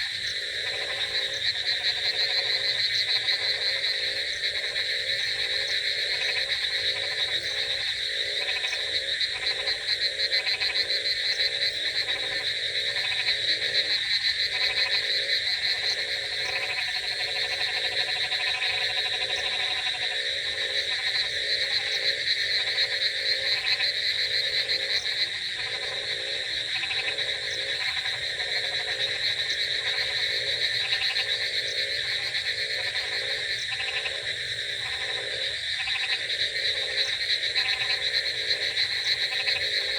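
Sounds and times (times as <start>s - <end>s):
high continuous frog trilling: 0.0s - 39.9s
pulsed low frog croaks: 0.0s - 39.9s.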